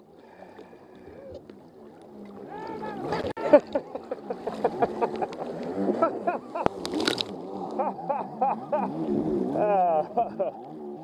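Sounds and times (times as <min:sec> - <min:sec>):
jet ski engine running: 0:00.0 - 0:11.0
water sloshing and gurgling: 0:00.0 - 0:11.0.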